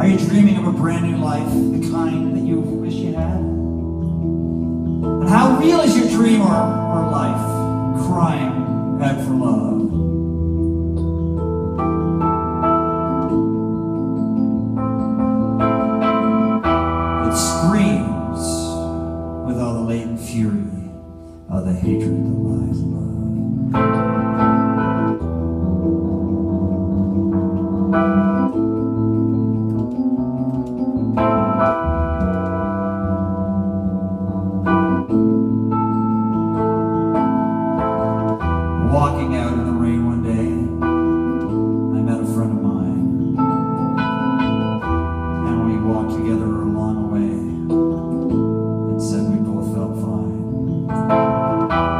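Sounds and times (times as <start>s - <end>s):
organ-like keyboard chords: 0.0s - 51.9s.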